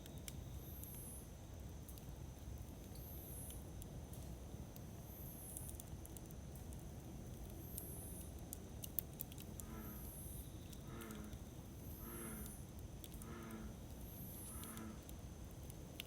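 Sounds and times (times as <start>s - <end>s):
crackles and pops of burning wood: 0.0s - 16.0s
campfire rumbling: 1.5s - 16.0s.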